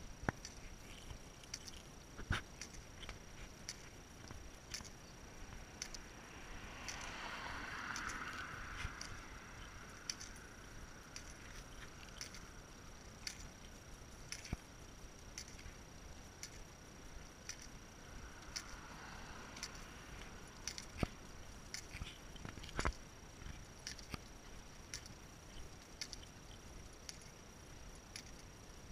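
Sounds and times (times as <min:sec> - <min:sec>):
faint high-pitched whine: 0:00.0 - 0:28.9.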